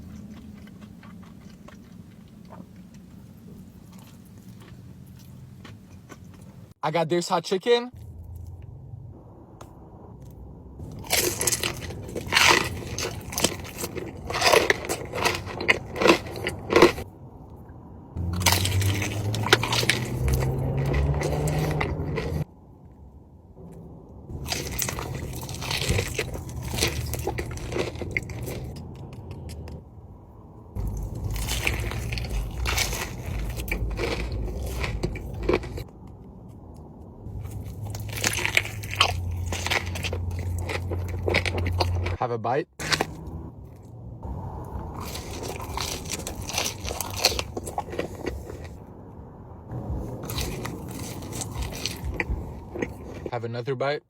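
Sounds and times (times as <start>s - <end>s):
crispy chicken crunching: 0.0s - 6.7s, 10.2s - 17.1s, 18.2s - 22.5s, 24.3s - 29.8s, 30.8s - 42.2s, 42.8s - 43.9s, 44.6s - 48.8s, 49.8s - 53.4s.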